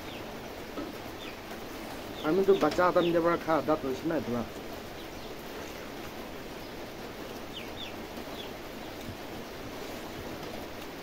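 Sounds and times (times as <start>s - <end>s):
outdoor ambient hiss: 0.0s - 11.0s.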